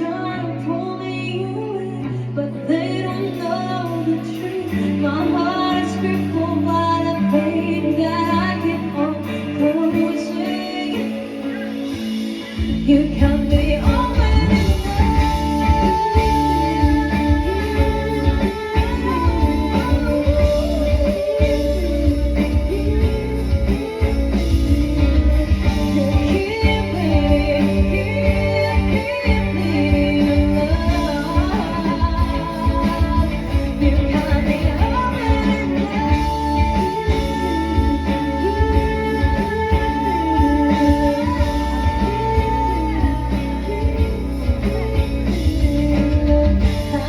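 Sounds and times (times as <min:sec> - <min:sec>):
bass guitar: 0:00.0 - 0:47.0
drums: 0:00.0 - 0:47.0
gliding melody line: 0:00.0 - 0:47.0
guitar: 0:00.0 - 0:47.0.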